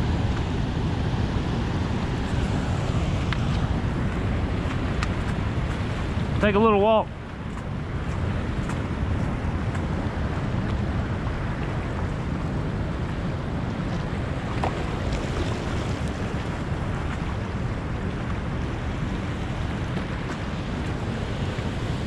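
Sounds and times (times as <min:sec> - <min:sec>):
water churning below spillway: 0:00.0 - 0:22.0
wind buffeting microphone: 0:00.0 - 0:22.0.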